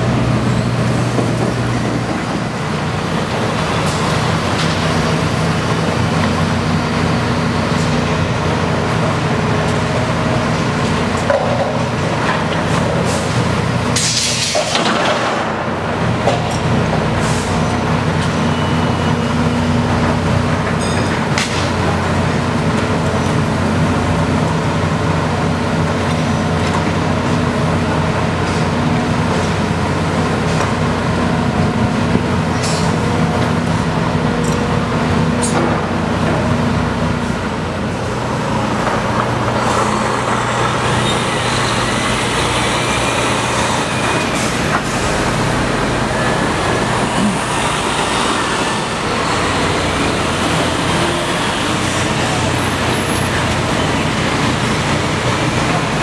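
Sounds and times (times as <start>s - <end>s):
excavator diesel engine running: 0.0s - 14.0s, 15.0s - 56.0s.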